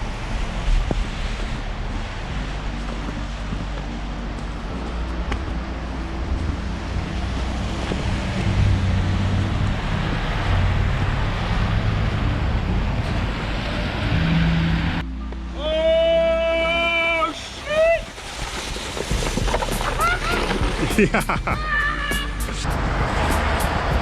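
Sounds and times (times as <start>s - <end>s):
road traffic: 0.0s - 24.0s
vehicle engine hum: 0.0s - 24.0s
wind: 0.0s - 24.0s.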